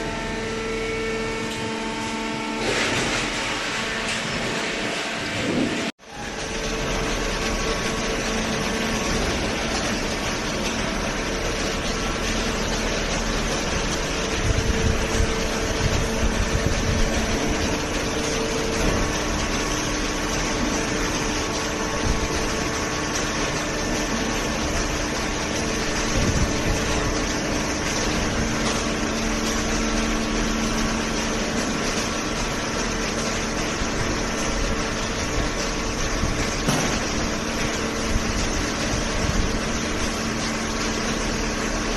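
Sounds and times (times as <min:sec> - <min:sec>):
baler machine hum and drone: 0:00.0 - 0:41.9.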